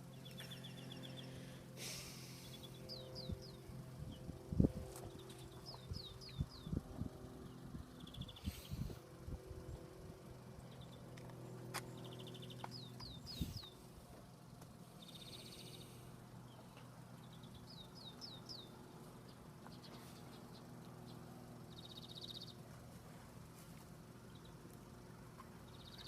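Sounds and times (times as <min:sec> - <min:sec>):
faint low hum: 0:00.0 - 0:26.0
songbirds chirping: 0:00.0 - 0:26.0.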